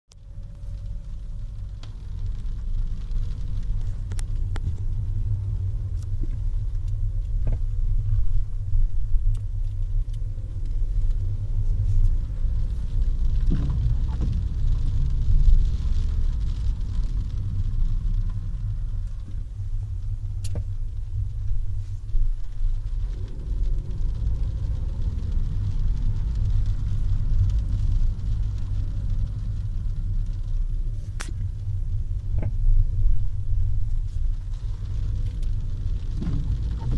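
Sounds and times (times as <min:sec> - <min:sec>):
car road rumble: 0:00.1 - 0:36.9.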